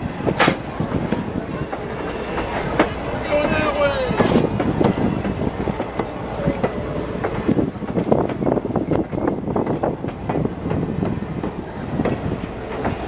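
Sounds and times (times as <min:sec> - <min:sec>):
train low rumble: 0:00.0 - 0:13.0
train wheels clacking on rails: 0:00.0 - 0:13.0.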